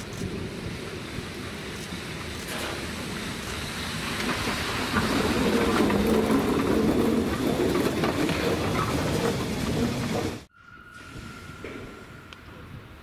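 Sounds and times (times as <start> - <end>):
locomotive wheels rumbling on rails: 0.0 - 13.0.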